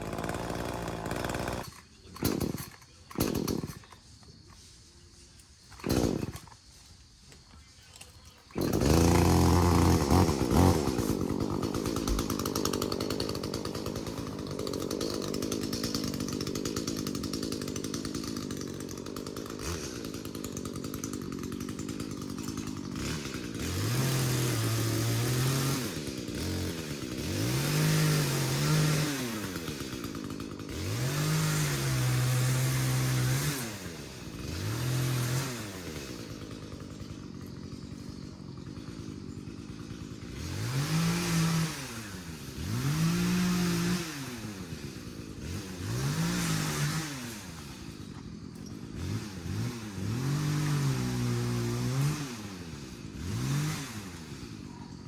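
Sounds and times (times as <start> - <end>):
chainsaw running and revving: 0.0 - 4.0, 5.8 - 6.6, 8.4 - 55.0.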